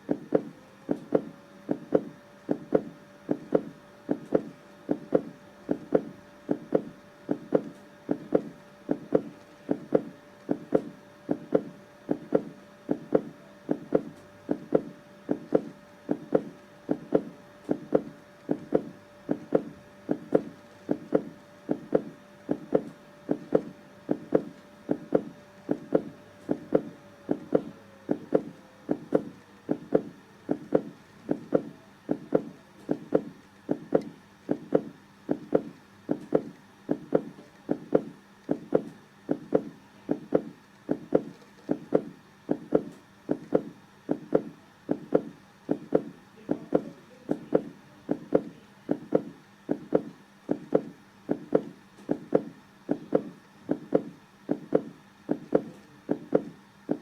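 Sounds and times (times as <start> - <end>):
faint steady tone: 0.0 - 57.0
heartbeat thumps: 0.1 - 57.0.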